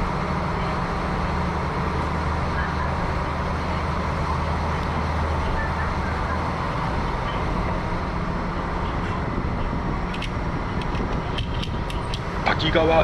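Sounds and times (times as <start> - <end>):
diesel railcar engine drone: 0.0 - 13.0
train running noise: 0.0 - 13.0.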